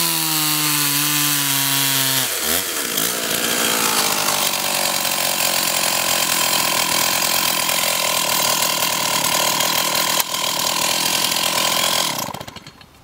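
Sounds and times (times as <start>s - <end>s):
chainsaw engine running: 0.0s - 12.8s.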